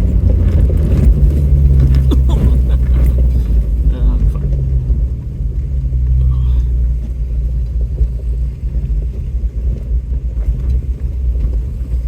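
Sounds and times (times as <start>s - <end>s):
off-road vehicle engine rumbling: 0.0s - 12.0s.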